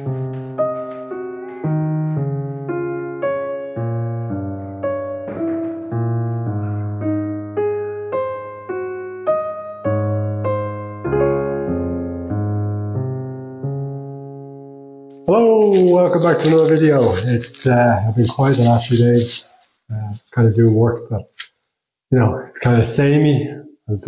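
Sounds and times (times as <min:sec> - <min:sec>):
piano music: 0:00.0 - 0:19.6.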